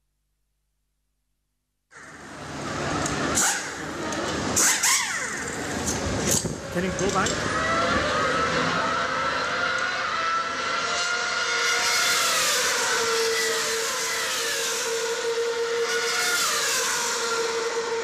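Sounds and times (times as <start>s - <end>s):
racing car engines over loudspeakers: 2.0s - 18.0s.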